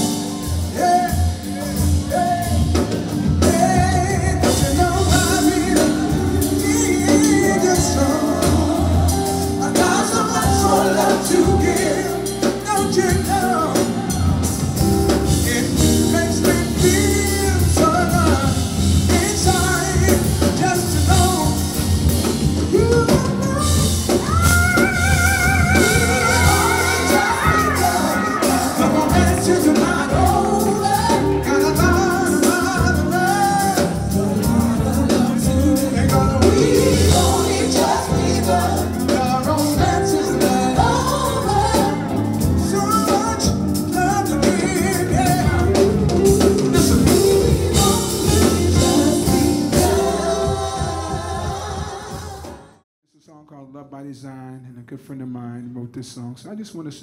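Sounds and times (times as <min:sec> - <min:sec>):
man singing into microphone: 0:00.0 - 0:52.4
band playing: 0:00.0 - 0:52.8.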